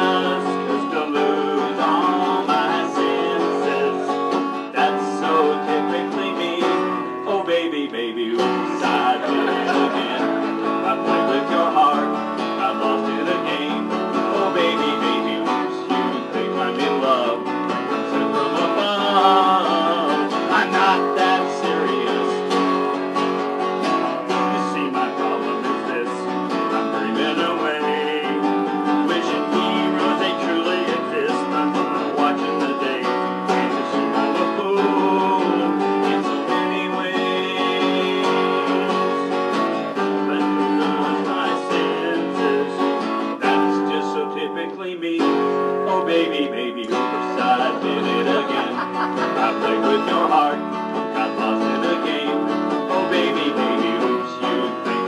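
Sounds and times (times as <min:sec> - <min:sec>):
acoustic guitar strumming: 0:00.0 - 0:55.0
person singing: 0:00.0 - 0:55.0.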